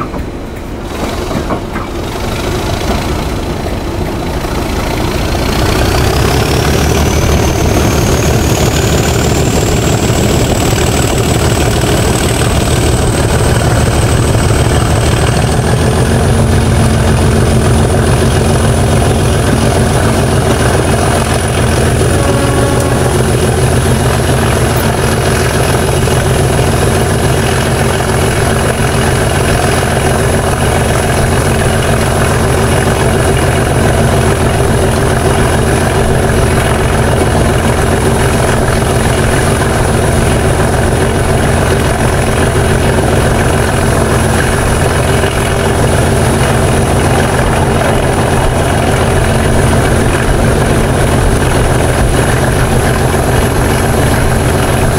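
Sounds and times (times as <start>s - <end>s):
diesel locomotive engine pulsing: 0.0s - 54.9s.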